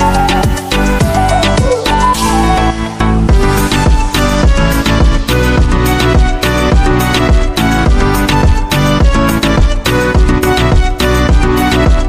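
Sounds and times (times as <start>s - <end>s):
electronic music with deep bass: 0.0s - 12.0s.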